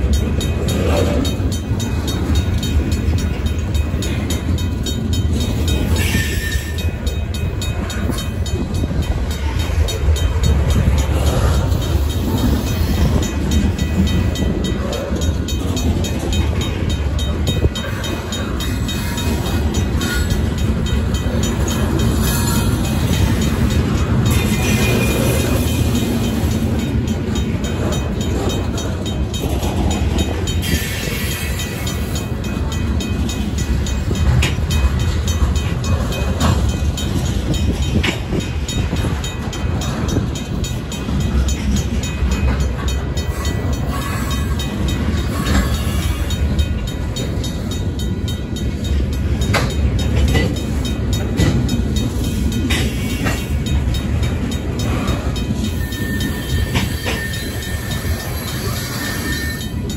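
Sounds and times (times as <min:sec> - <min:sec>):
crossing bell ringing rapidly: 0:00.0 - 0:59.9
freight train rumbling: 0:00.0 - 0:59.9
train wheels clacking: 0:00.0 - 0:59.9.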